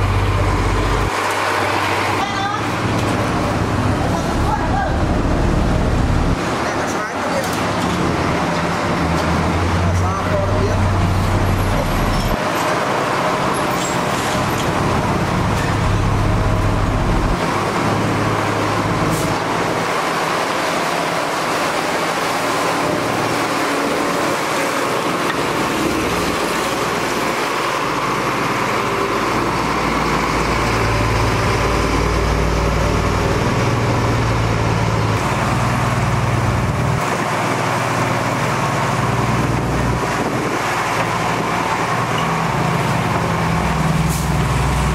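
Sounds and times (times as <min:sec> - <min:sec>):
construction machinery engines humming: 0:00.0 - 0:44.9
street traffic: 0:00.0 - 0:44.9.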